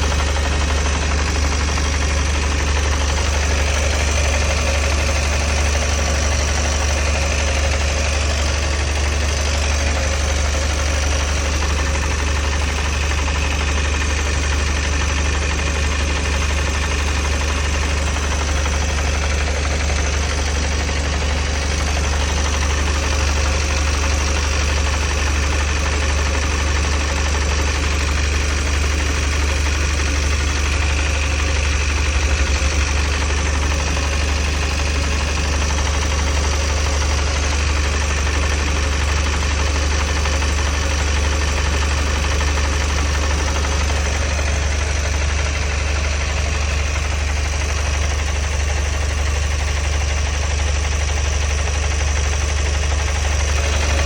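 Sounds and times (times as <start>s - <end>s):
van engine idling: 0.0s - 54.0s.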